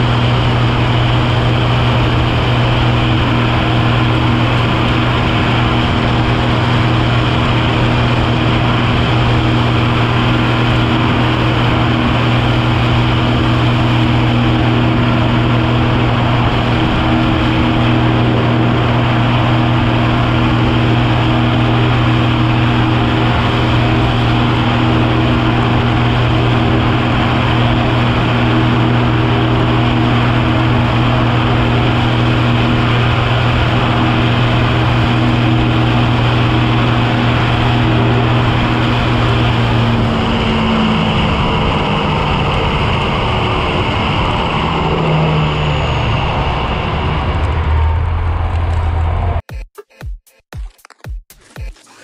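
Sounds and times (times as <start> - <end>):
tractor diesel engine running: 0.0 - 49.4.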